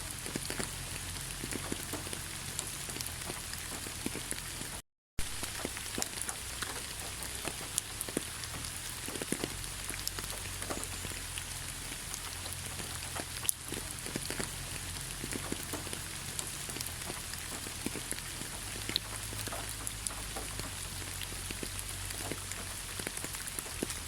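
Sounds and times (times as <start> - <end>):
raindrops clicking: 0.0 - 24.0
steady rain: 0.0 - 24.0.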